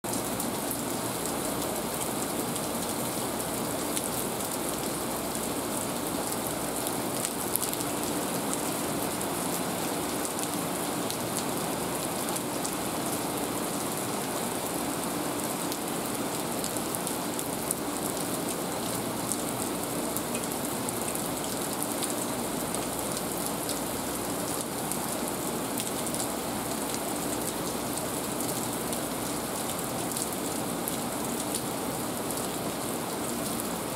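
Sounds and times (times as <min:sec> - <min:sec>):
heavy rain on pavement: 0:00.0 - 0:33.9.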